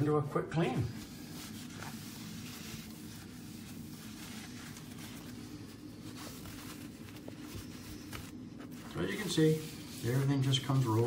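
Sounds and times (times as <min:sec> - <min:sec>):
bathroom exhaust fan humming: 0:00.0 - 0:11.0
paper towel rubbing window frame: 0:00.0 - 0:11.0.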